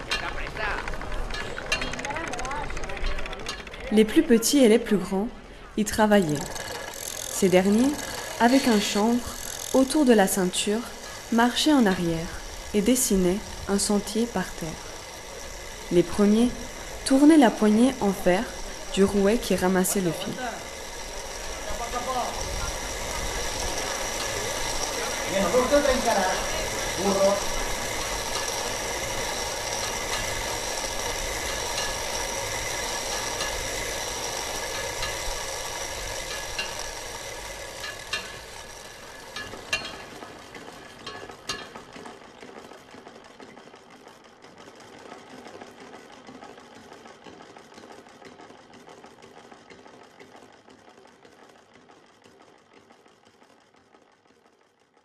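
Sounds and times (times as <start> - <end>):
ropemaking wheel whirring rattle: 0.0 - 55.0.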